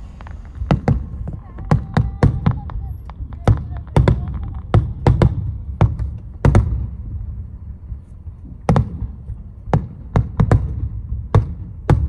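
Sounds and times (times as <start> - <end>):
firework bangs: 0.0 - 7.7, 8.4 - 12.0
low rumble: 0.0 - 12.0.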